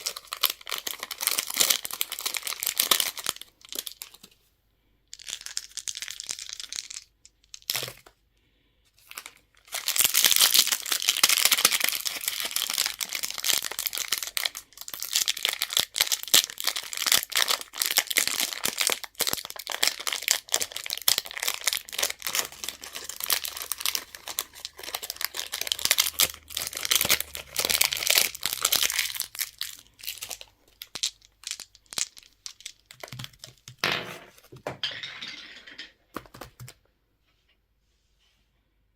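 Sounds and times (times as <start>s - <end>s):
candy wrappers crinkling and tearing: 0.0s - 4.4s, 5.1s - 8.1s, 9.0s - 33.8s.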